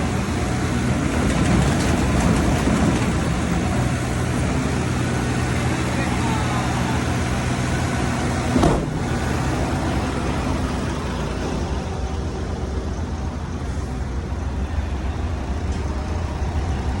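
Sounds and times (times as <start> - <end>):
vacuum truck droning: 0.0 - 17.0.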